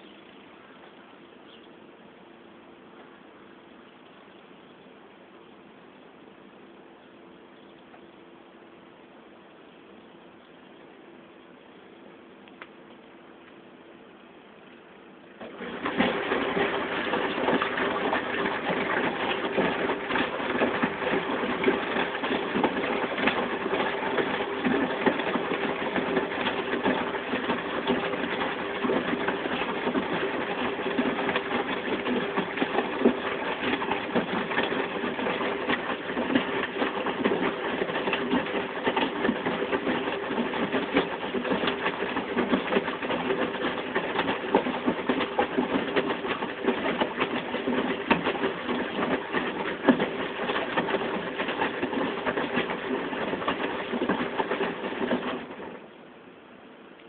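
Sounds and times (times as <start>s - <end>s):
washing machine humming and rattling: 0.0s - 12.5s, 13.2s - 57.0s.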